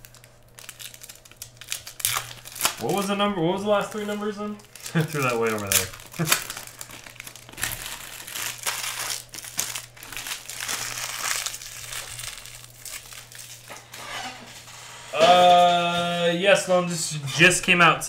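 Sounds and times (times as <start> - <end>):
wrappers crinkling: 0.0 - 14.7.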